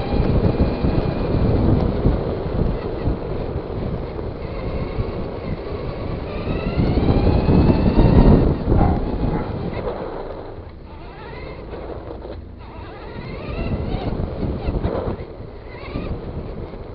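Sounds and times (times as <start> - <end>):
electric motor whine: 0.0 - 16.9
tyres rumbling: 0.0 - 16.9
wind noise: 0.0 - 16.9.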